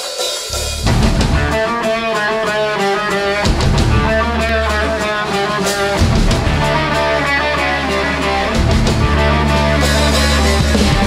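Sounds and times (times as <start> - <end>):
drums: 0.0 - 11.0
bass guitar: 0.5 - 11.0
electric guitar riff: 0.5 - 11.0.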